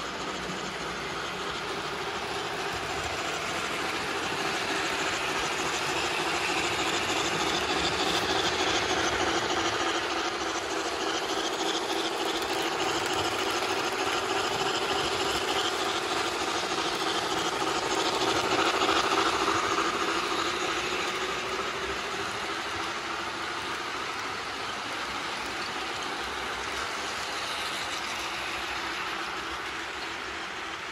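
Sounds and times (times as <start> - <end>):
model trains running on track: 0.0 - 30.9.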